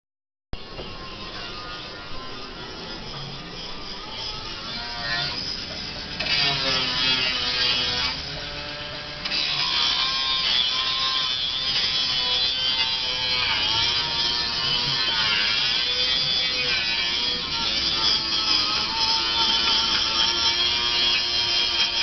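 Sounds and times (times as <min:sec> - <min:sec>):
power tool motor whirring: 0:02.4 - 0:22.0.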